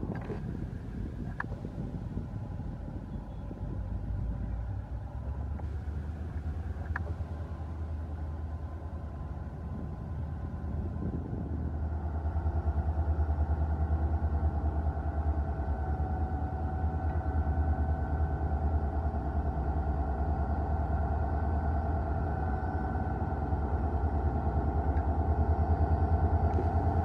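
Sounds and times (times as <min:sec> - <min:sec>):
diesel locomotive engine rumbling: 0:00.0 - 0:27.0.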